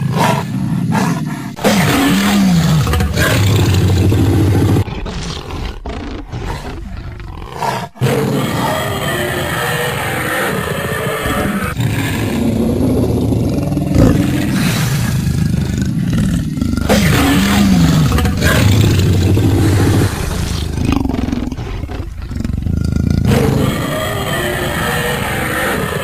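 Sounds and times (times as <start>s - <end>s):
cartoon lion roar: 0.0s - 26.0s.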